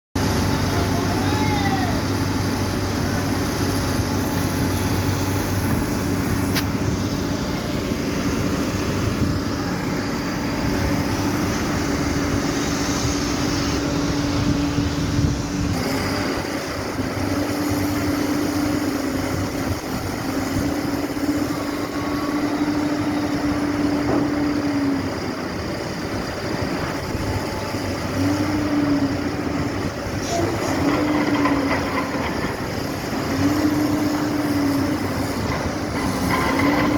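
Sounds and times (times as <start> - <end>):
machinery drone with hum: 0.2 - 36.9.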